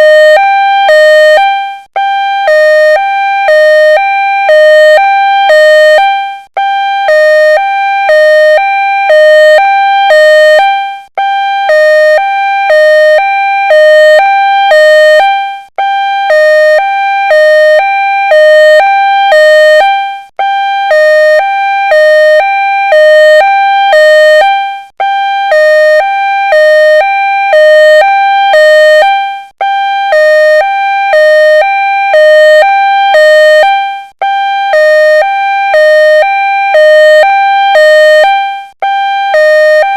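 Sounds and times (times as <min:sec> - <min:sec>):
ambulance siren two-tone wail: 0:00.0 - 0:39.9.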